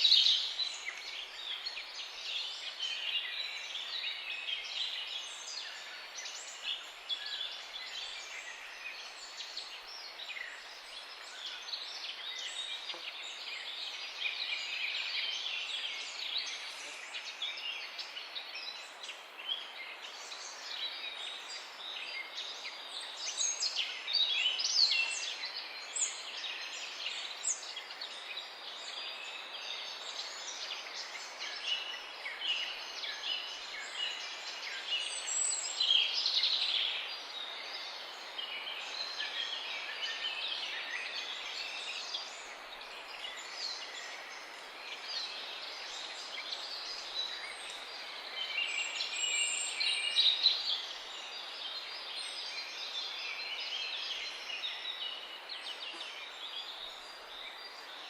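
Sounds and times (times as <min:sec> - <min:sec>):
soft steady hiss: 0:00.0 - 0:58.0
songbirds chirping and singing: 0:00.0 - 0:58.0.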